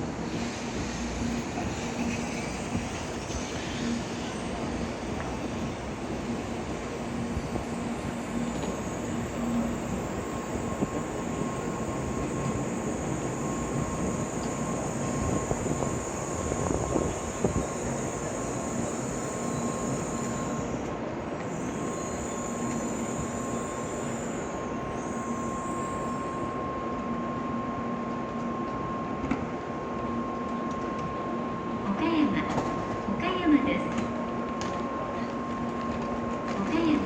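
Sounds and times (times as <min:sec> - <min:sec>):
train rumble: 0:00.0 - 0:37.0
thin steady whine: 0:01.0 - 0:37.0.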